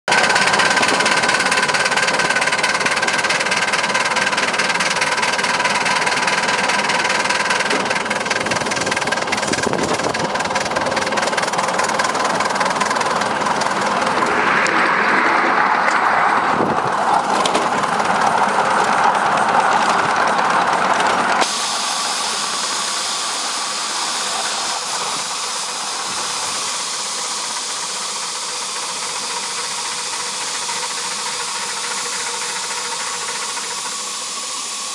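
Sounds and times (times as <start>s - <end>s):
steam locomotive hissing: 0.1s - 34.9s.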